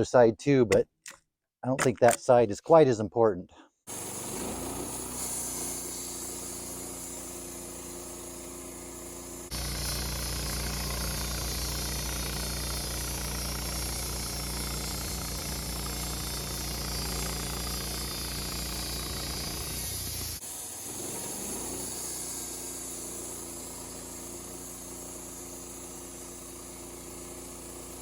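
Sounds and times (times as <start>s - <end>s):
sawmill running: 3.9s - 28.0s.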